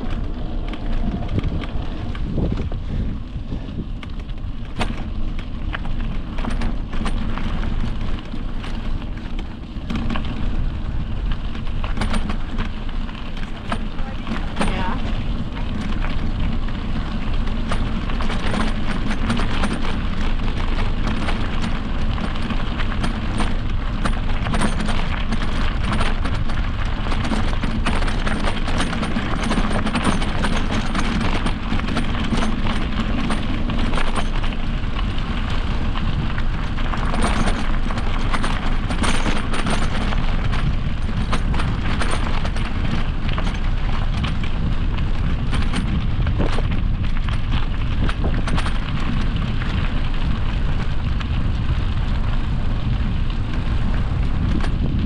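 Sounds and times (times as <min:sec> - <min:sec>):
bike clattering over bumps: 0:00.0 - 0:55.0
tyres rolling on dirt trail: 0:00.0 - 0:55.0
wind rushing over microphone: 0:00.0 - 0:55.0.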